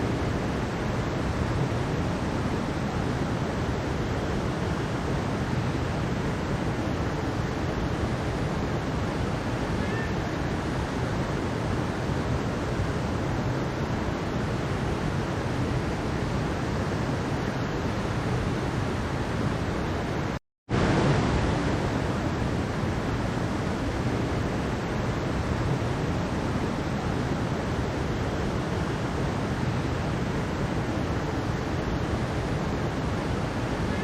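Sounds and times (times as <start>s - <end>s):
mountain stream rushing: 0.0s - 34.0s.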